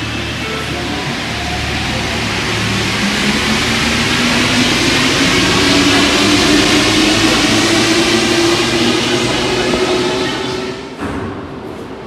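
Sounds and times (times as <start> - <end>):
train motors whining: 0.0 - 11.0
train rushing rumble: 0.0 - 12.0.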